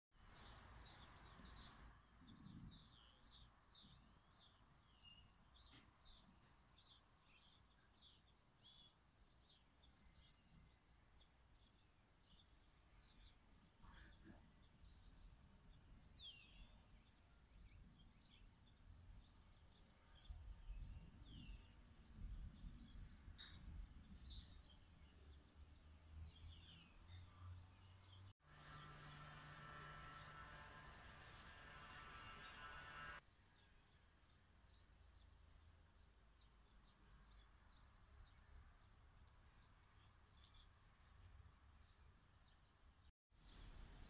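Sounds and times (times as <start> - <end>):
small birds chirping: 0.2 - 44.0.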